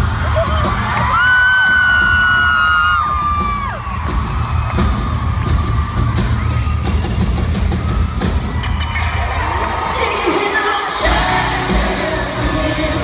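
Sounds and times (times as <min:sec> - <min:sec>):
crowd noise: 0:00.0 - 0:13.0
loud music with heavy bass: 0:00.0 - 0:13.0.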